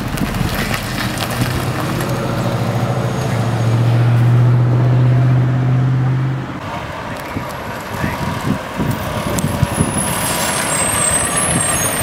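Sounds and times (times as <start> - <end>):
diesel truck engine passing: 0.0 - 12.0.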